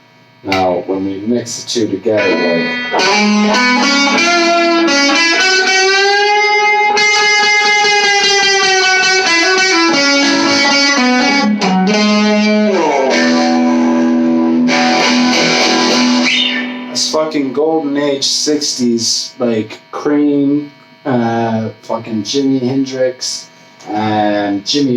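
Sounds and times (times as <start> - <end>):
electric guitar lead lines: 0.0 - 24.9.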